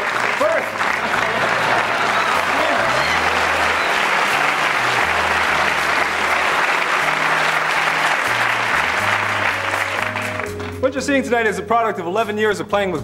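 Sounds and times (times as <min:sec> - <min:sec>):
studio audience applauding: 0:00.0 - 0:11.0.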